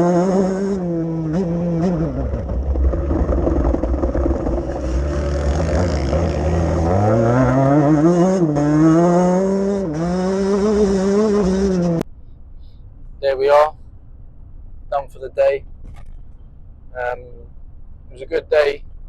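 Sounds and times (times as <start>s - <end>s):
motocross bike engine: 0.0s - 19.0s.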